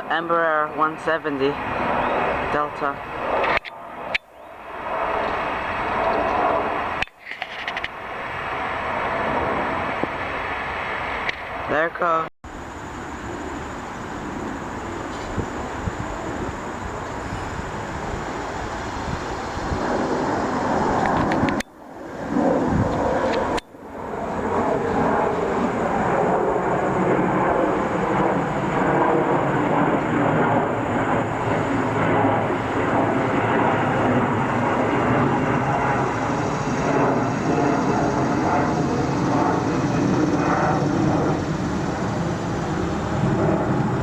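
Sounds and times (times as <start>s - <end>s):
jet engines rushing: 0.0s - 44.0s.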